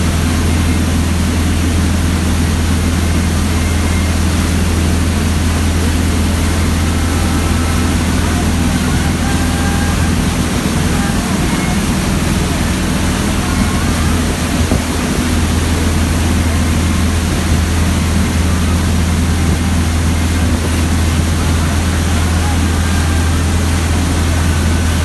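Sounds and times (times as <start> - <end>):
boat engine humming: 0.0 - 25.0
water wash: 0.0 - 25.0.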